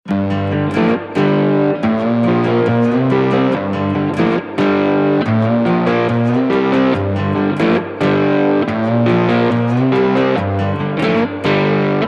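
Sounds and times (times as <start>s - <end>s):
distorted electric guitar music: 0.0s - 12.0s.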